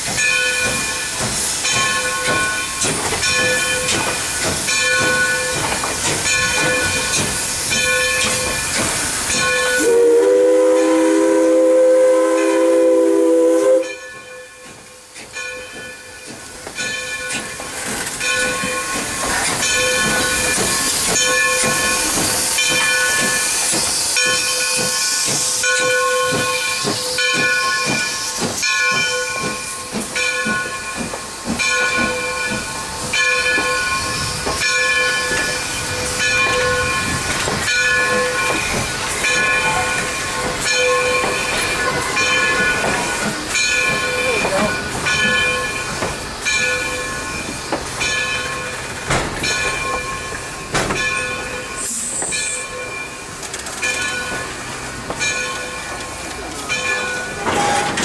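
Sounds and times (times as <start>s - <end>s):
train wheels knocking and clanking: 0.0s - 9.9s, 13.8s - 58.0s
locomotive bell ringing: 0.0s - 11.7s, 13.6s - 58.0s
steam hissing: 0.0s - 58.0s.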